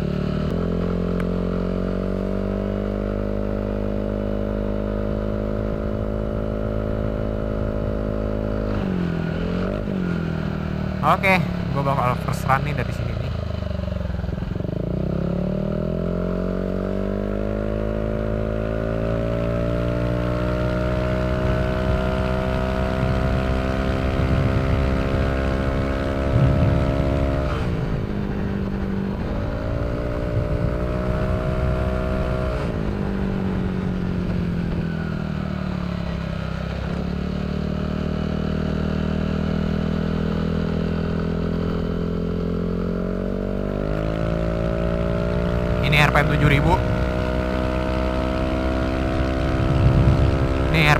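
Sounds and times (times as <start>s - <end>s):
scooter engine accelerating: 0.0s - 50.9s.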